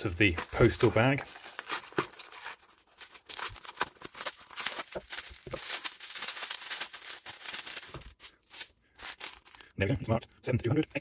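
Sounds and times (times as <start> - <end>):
packaging rustling and crinkling: 0.0 - 9.7.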